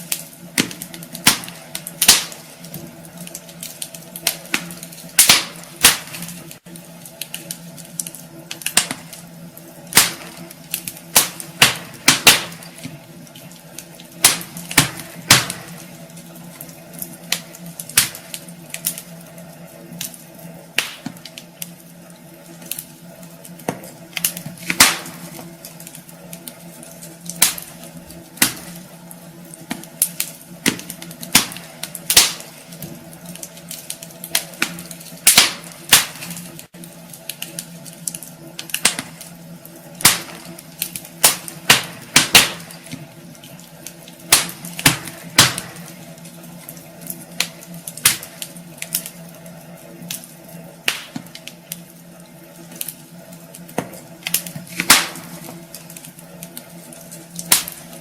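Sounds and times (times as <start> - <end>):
faint steady hum: 0.0 - 58.0
wood fire crackling and popping: 0.0 - 58.0.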